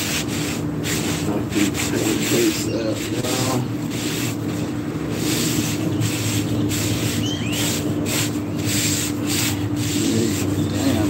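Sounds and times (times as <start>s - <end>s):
paper towel scrubbing a griddle: 0.0s - 11.0s
steady hum: 0.0s - 11.0s.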